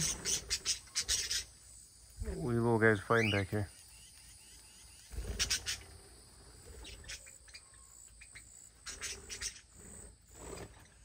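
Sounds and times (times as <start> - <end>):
parrots chirping and squawking: 0.0 - 1.9, 2.9 - 11.0.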